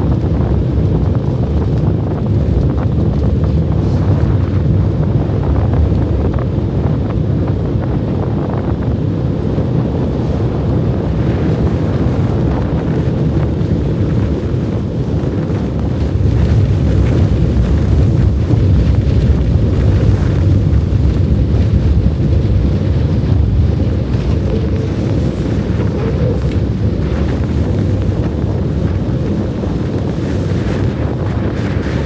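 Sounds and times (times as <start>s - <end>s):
strong wind on microphone: 0.0s - 32.0s.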